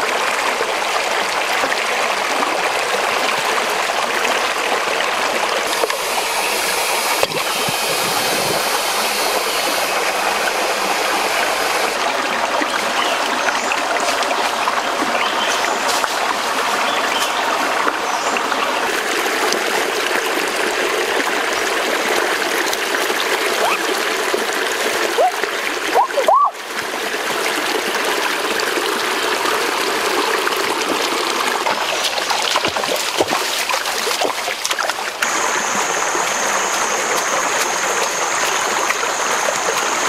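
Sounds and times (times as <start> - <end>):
stream trickling over stones: 0.0 - 40.0.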